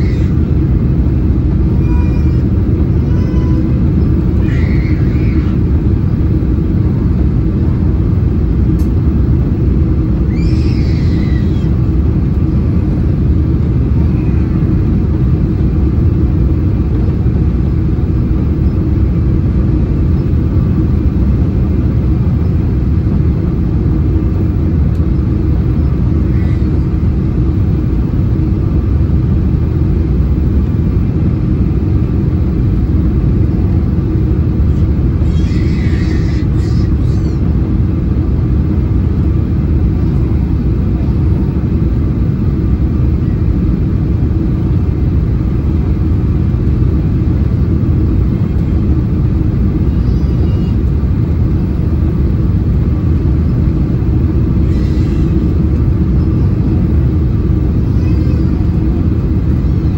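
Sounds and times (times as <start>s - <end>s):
aircraft cabin rumble: 0.0s - 59.9s
jet engine and airflow noise: 0.0s - 59.9s
steady hum: 0.0s - 59.9s.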